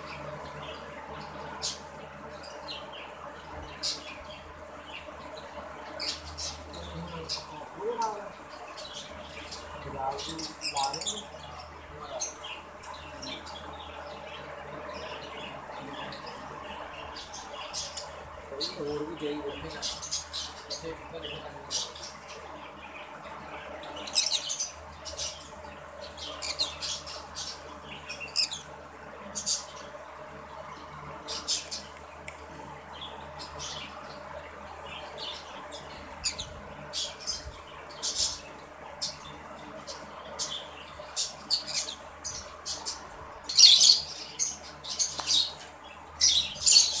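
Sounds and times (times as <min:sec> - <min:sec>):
parrots chirping and squawking: 0:05.0 - 0:18.8, 0:19.5 - 0:29.9, 0:33.0 - 0:47.0.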